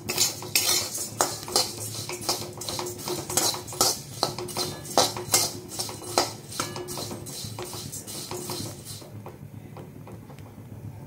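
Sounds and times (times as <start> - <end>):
dry flakes rustling: 0.0 - 9.2
metal spatula scraping a wok: 0.0 - 9.2.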